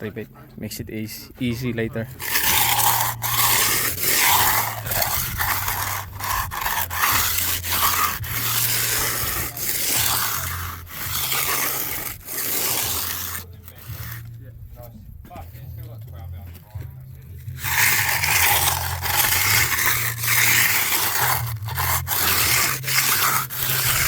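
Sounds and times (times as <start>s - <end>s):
hand tool scraping concrete: 0.9s - 14.9s, 16.5s - 24.0s.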